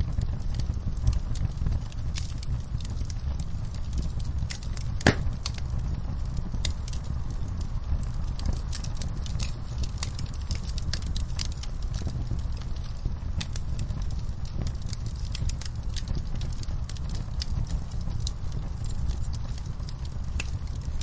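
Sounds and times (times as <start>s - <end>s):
low rumble of burning: 0.0s - 21.0s
sharp pops from fire: 0.0s - 21.0s
wood fire crackling: 0.0s - 21.0s.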